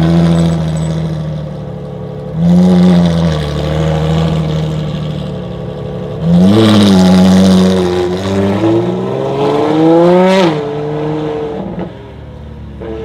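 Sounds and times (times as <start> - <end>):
sports car engine revving: 0.0 - 12.0.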